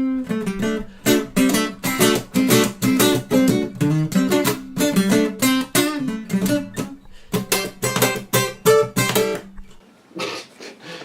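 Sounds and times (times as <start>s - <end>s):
acoustic guitar strummed chords: 0.0s - 9.8s.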